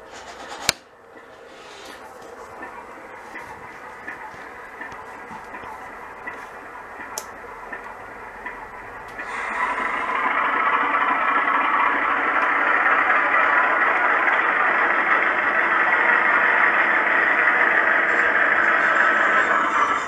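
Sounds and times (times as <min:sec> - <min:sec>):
model diesel engine sound: 0:00.7 - 0:20.0.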